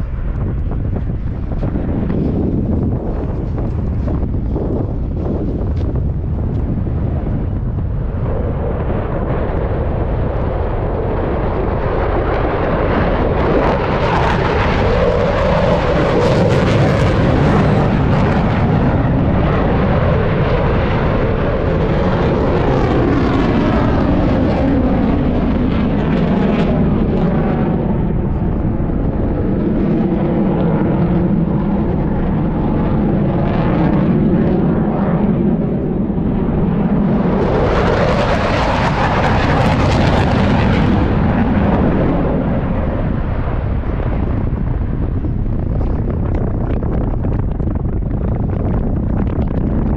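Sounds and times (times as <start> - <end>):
aircraft engines flying past: 0.0 - 49.9.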